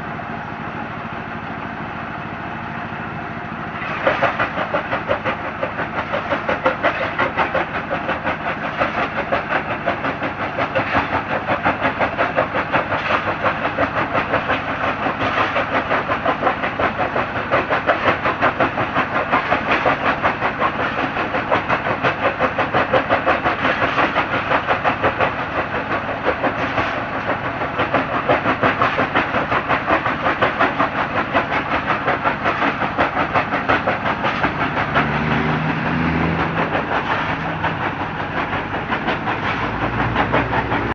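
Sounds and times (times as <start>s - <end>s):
stone crusher clattering: 3.8s - 40.9s.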